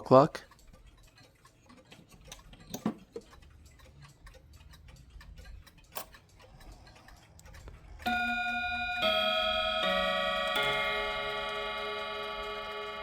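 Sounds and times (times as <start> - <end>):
clock pendulum ticking: 0.0 - 13.0
loud clock clicks: 0.0 - 13.0.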